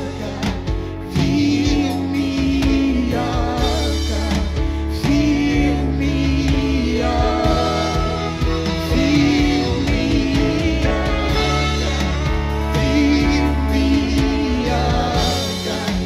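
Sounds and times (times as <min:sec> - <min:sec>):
backing singers: 0:00.0 - 0:16.0
gospel church band: 0:00.0 - 0:16.0
woman singing lead: 0:00.0 - 0:16.0.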